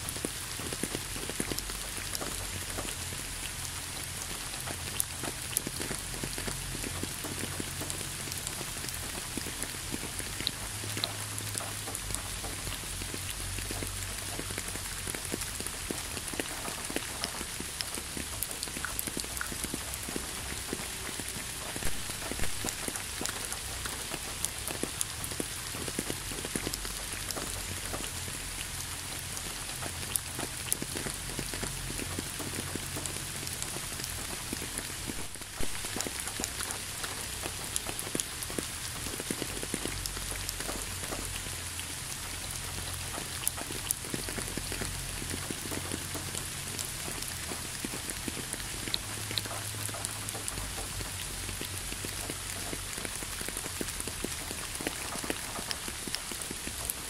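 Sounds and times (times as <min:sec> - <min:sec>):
close raindrops ticking: 0:00.0 - 0:57.0
steady rain hiss: 0:00.0 - 0:57.0.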